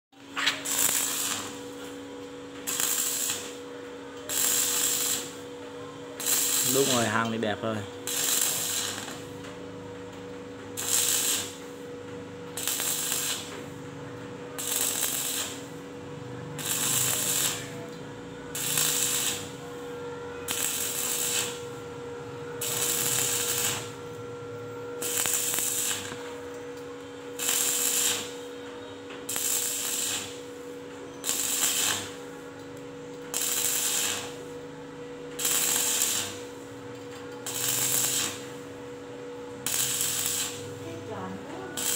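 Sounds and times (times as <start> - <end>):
steady hum: 0.1 - 41.9
welding arc crackling: 0.3 - 9.5, 10.7 - 38.9, 39.5 - 41.9.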